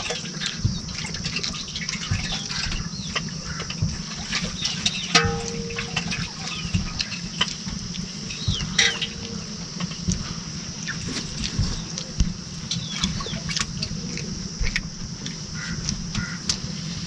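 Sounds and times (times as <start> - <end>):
chickens clucking: 0.0 - 16.7.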